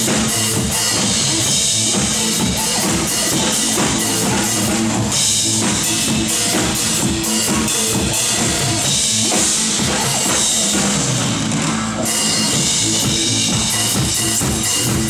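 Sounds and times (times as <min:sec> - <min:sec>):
pop backing track: 0:00.0 - 0:15.0.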